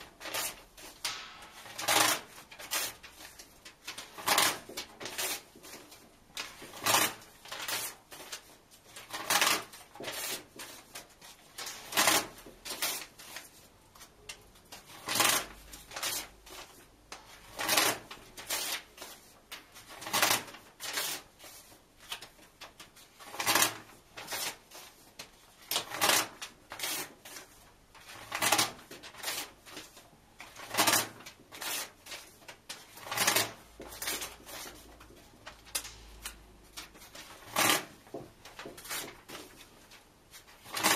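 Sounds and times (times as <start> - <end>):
paper tearing: 0.0 - 14.1, 14.7 - 40.9
paper rustling: 0.0 - 40.9.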